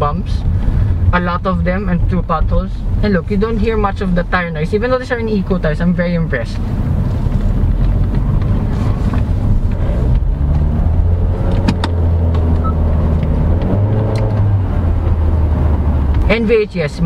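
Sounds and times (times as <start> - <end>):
car cabin drone: 0.0 - 17.0.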